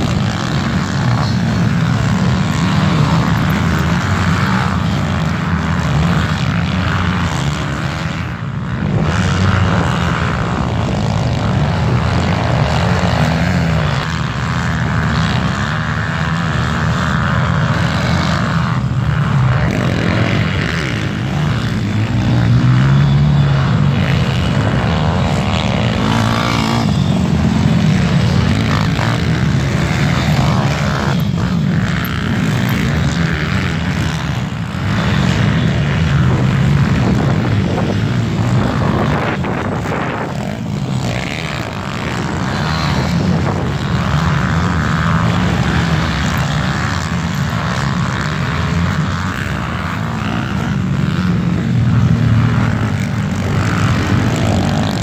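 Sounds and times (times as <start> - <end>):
pit bike engines revving: 0.0 - 55.0.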